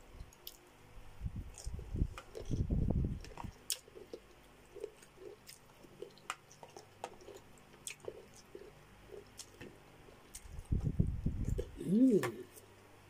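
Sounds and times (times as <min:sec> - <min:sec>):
chewing and mouth smacks: 0:01.4 - 0:12.6.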